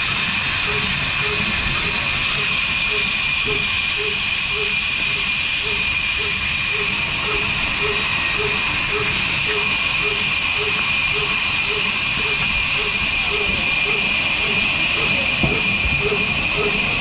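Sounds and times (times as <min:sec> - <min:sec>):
band saw cutting log: 0:01.2 - 0:16.9.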